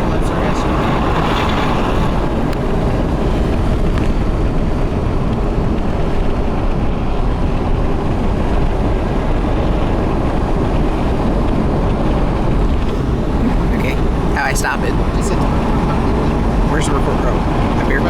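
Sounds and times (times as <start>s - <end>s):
car road noise from cabin: 0.0s - 18.0s.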